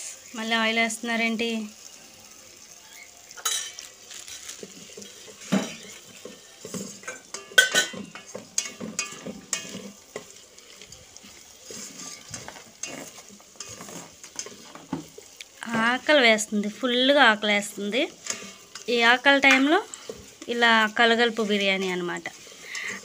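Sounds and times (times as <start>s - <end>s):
faint sizzle: 0.0s - 23.0s.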